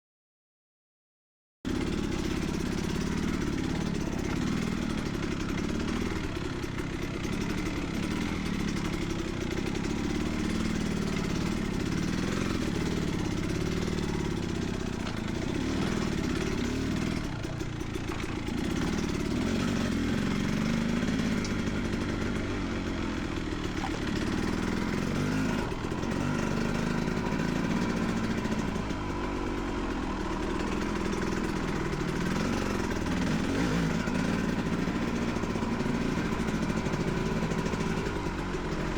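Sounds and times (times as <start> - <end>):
dirt bike engine revving: 1.7 - 38.9.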